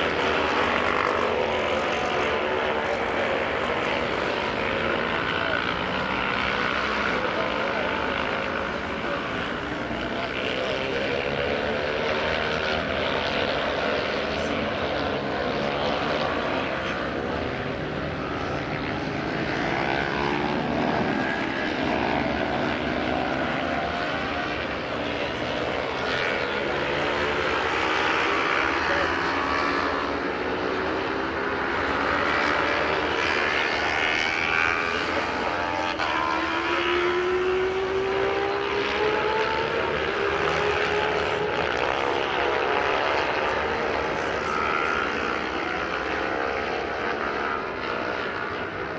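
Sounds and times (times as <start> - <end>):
racing motorcycle engines: 0.0 - 48.9.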